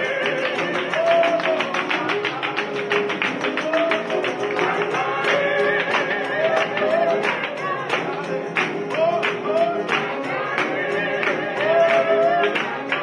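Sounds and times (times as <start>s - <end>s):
music with fast beat: 0.0s - 13.0s.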